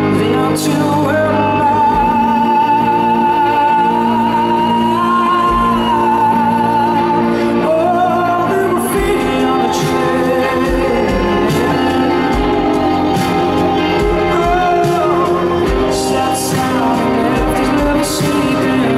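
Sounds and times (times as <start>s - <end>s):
guitar and band playing: 0.0s - 18.9s
man singing high note: 0.0s - 18.9s.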